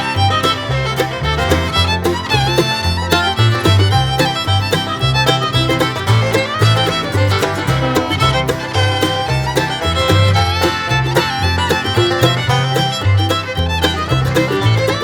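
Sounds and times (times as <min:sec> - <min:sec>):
fiddle: 0:00.0 - 0:15.0
upbeat bluegrass music: 0:00.0 - 0:15.0
walking bass: 0:00.0 - 0:15.0.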